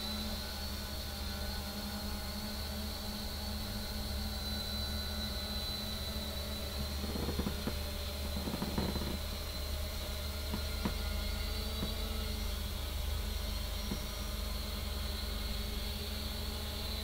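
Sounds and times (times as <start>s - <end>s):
drone motors humming with high whine: 0.0s - 17.0s.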